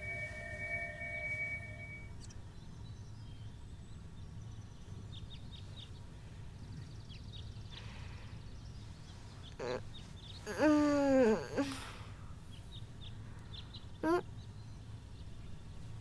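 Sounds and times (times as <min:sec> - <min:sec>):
faint birds chirping: 0:00.0 - 0:16.0
low steady background hum: 0:00.0 - 0:16.0.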